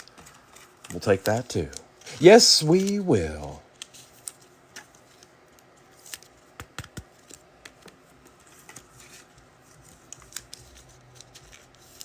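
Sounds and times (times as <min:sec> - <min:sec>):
cards clicking and sliding: 0:00.0 - 0:12.0.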